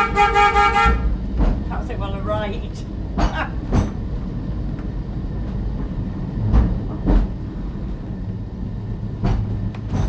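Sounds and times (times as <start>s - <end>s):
tramcar rumbling on rails: 0.0s - 10.0s.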